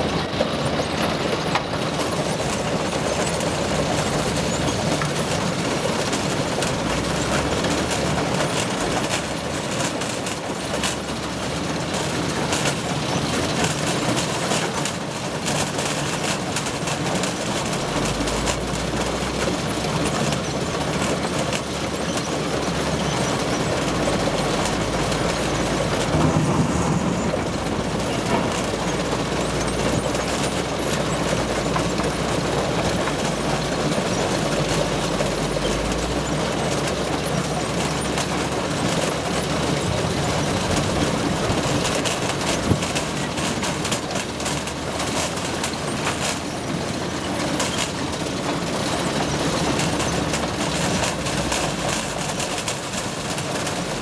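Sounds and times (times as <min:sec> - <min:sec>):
conveyors and shaker mechanical din: 0:00.0 - 0:54.0.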